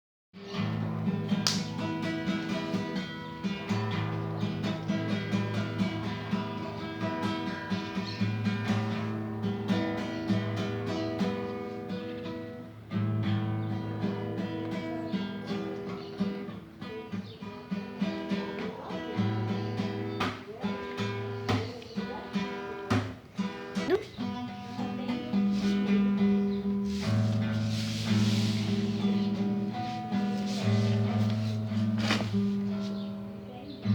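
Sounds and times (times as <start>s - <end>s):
acoustic guitar strummed and plucked: 0.4s - 33.9s.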